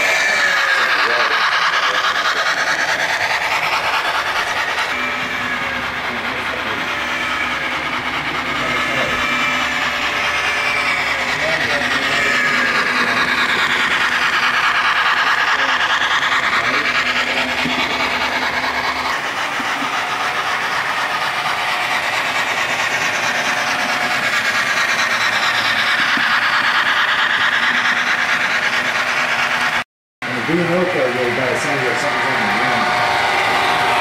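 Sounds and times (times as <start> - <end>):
model train whirring on rails: 0.0 - 34.0.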